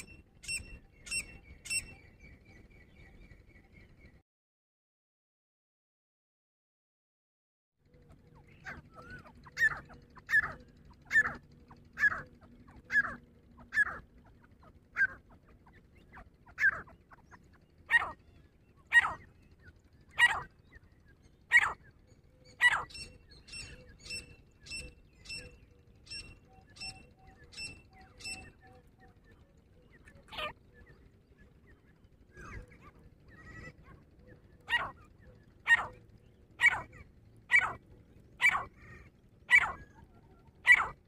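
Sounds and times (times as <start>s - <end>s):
bird calling ringing notes: 0.0s - 3.9s, 8.0s - 41.0s.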